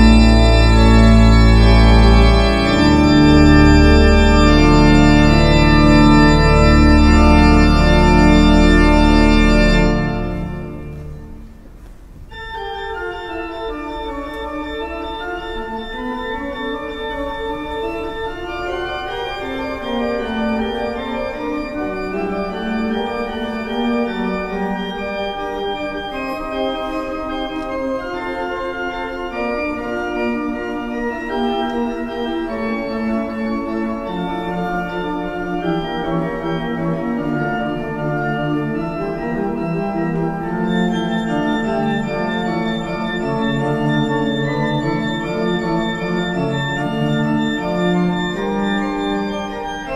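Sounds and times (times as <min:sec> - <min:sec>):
pipe organ chords: 0:00.0 - 0:49.9.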